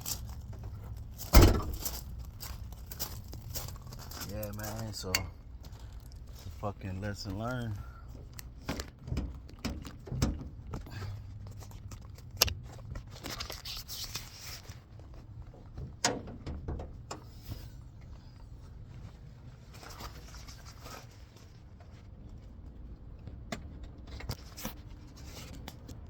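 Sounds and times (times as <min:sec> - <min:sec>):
low steady rumble: 0:00.0 - 0:24.2.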